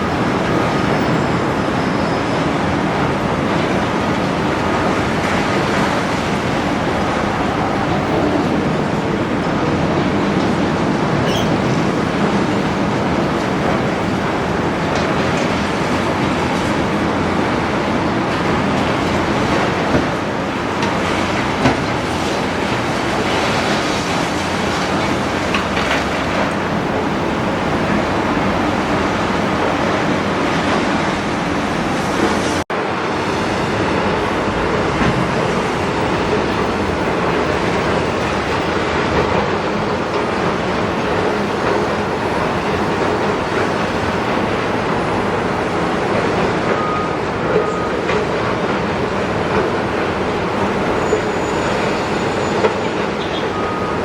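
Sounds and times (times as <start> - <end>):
excavator mechanical noise: 0.0 - 54.0.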